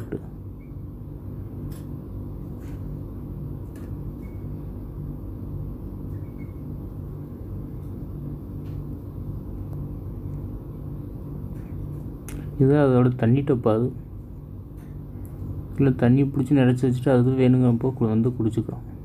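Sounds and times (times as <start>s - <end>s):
low pulsing rumbling hum: 0.0s - 19.0s.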